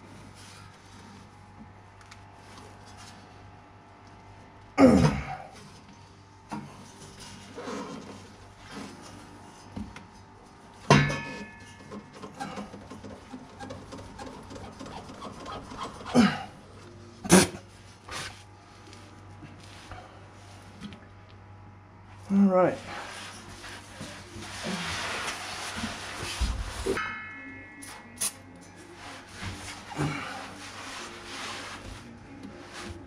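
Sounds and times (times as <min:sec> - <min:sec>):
faint music: 0:00.0 - 0:33.0.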